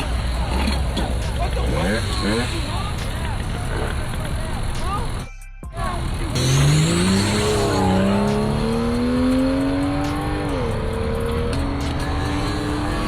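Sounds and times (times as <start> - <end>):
vehicle engine accelerating: 0.0 - 5.2, 5.8 - 13.0.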